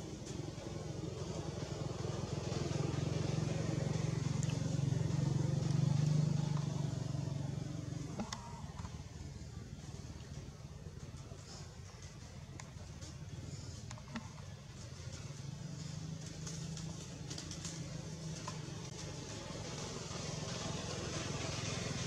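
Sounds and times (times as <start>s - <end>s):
vehicle engine passing by: 0.2s - 10.4s, 13.0s - 22.0s.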